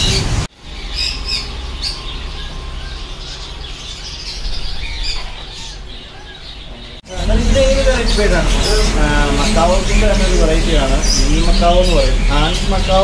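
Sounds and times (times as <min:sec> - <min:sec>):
parrots squawking: 0:00.0 - 0:13.0.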